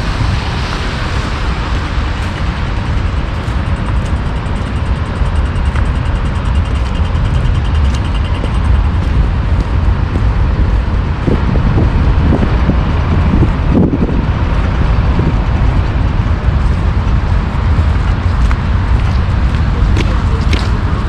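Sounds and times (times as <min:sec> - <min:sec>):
car traffic going by: 0:00.0 - 0:21.0
wind rumble on microphone: 0:00.0 - 0:21.0.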